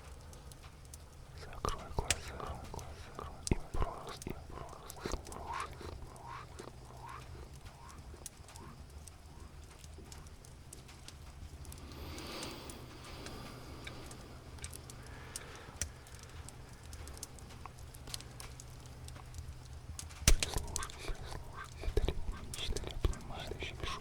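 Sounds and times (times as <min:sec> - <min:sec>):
campfire crackling and popping: 0:00.0 - 0:24.0
cat purring: 0:00.5 - 0:24.0.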